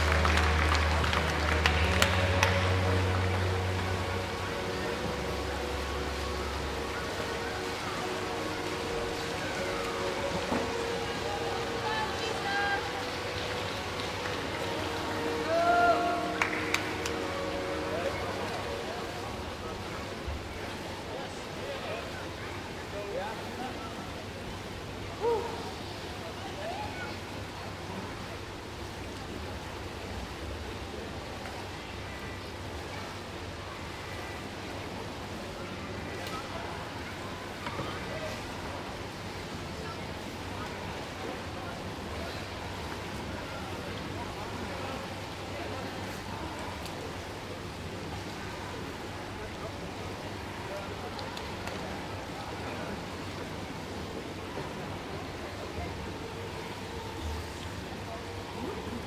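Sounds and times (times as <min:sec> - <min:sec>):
water churned by swimmers: 0:00.0 - 0:59.0.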